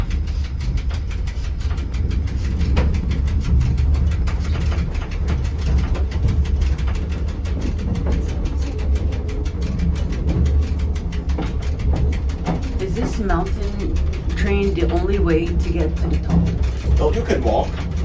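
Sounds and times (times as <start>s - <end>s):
rack train rumbling: 0.0s - 18.0s
rapid even clicking: 0.0s - 18.0s.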